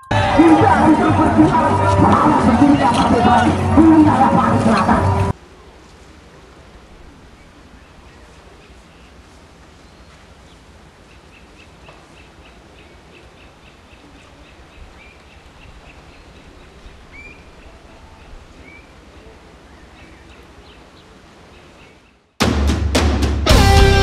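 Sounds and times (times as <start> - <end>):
low background noise: 0.0 - 22.4.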